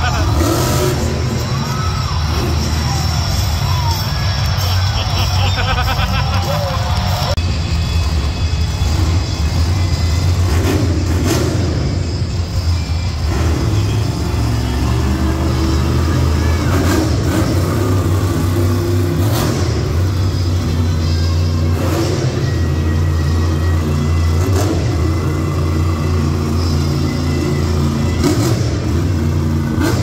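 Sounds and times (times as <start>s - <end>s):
loud truck engine rumble: 0.0s - 30.0s.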